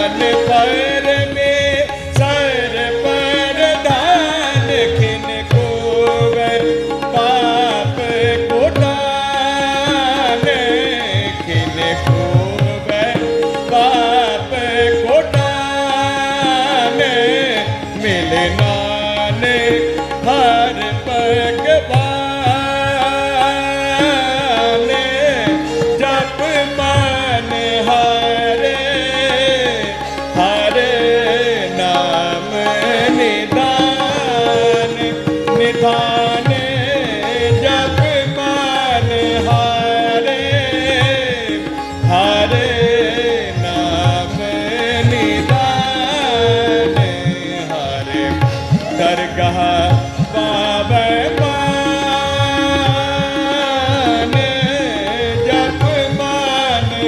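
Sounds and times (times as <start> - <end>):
harmonium melody: 0.0 - 57.0
tabla rhythm: 0.0 - 57.0.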